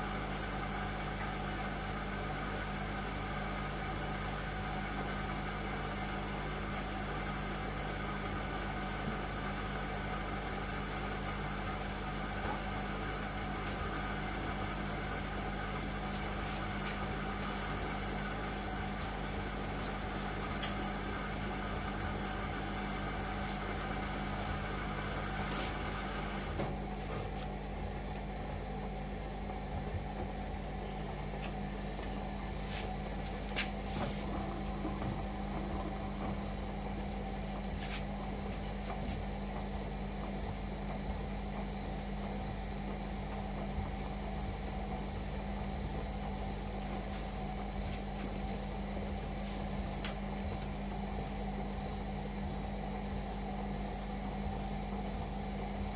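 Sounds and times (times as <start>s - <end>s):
washing machine humming: 0.0s - 55.9s.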